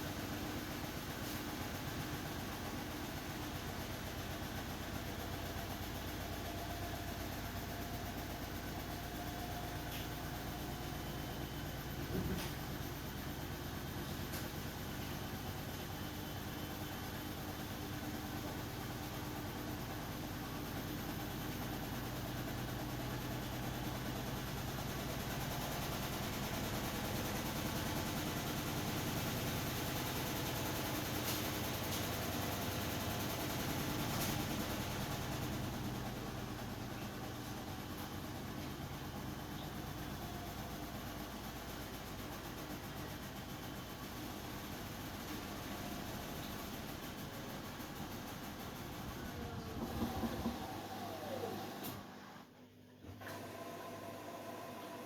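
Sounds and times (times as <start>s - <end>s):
washing machine motor and drum hum: 0.0s - 55.0s.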